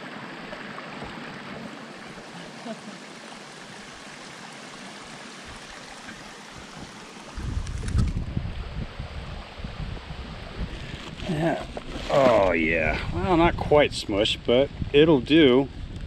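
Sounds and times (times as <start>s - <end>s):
creek water rushing: 0.0s - 13.5s.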